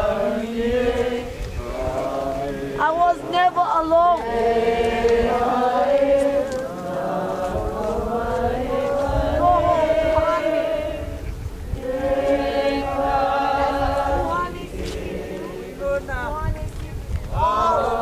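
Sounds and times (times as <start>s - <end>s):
voices chanting in held notes: 0.0s - 16.1s, 17.3s - 18.0s
wind rumble on microphone: 0.0s - 18.0s.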